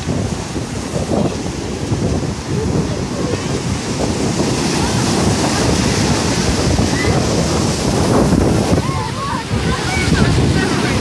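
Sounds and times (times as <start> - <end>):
storm surf breaking on beach: 0.0 - 11.0
wind buffeting microphone: 0.0 - 11.0.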